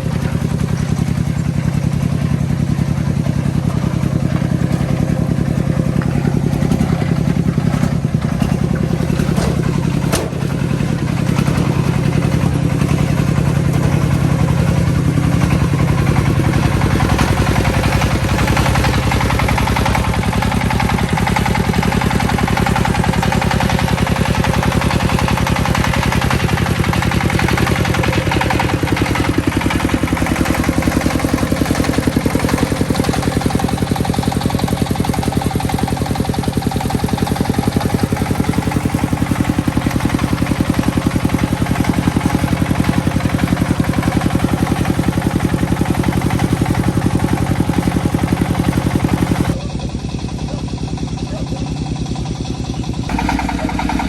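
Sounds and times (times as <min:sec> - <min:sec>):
single-cylinder diesel engine running: 0:00.0 - 0:54.0.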